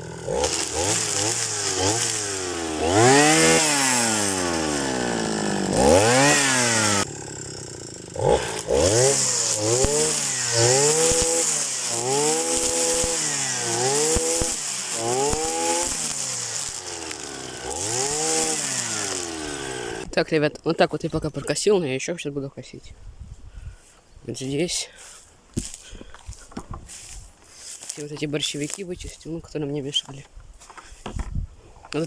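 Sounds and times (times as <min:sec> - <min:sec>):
brush cutter engine revving: 0:00.0 - 0:20.2, 0:24.5 - 0:30.2.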